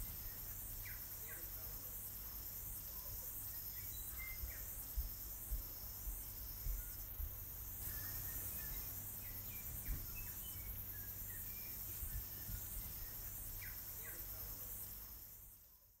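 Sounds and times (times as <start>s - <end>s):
faint bird chirps: 0.0s - 1.9s, 2.9s - 5.6s, 6.5s - 15.8s
insects chirring: 0.0s - 16.0s.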